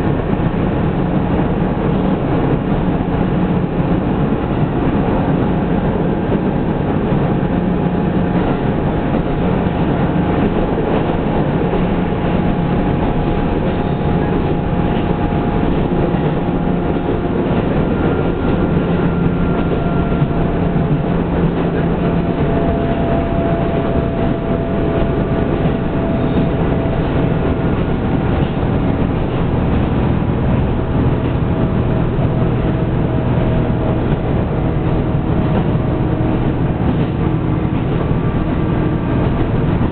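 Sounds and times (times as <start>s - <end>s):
diesel engine drone: 0.0s - 39.9s
wheels rumbling on rails: 0.0s - 39.9s.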